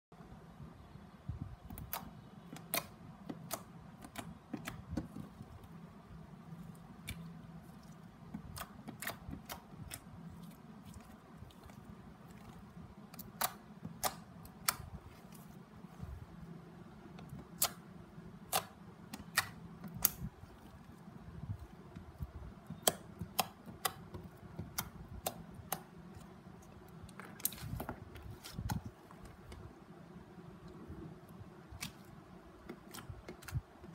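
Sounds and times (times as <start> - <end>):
low steady hum: 0.1 - 33.9
fingers poking sticky slime: 1.6 - 5.8, 6.5 - 15.5, 17.1 - 29.7, 31.6 - 33.9.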